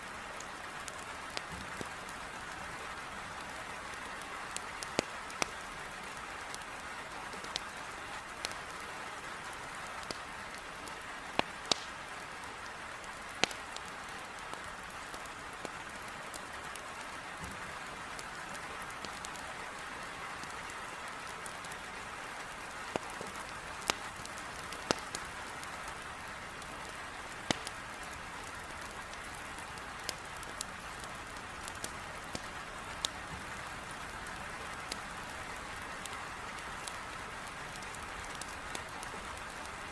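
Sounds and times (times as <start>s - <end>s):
heavy rain against a window: 0.0s - 39.9s
wood fire crackling: 0.0s - 39.9s.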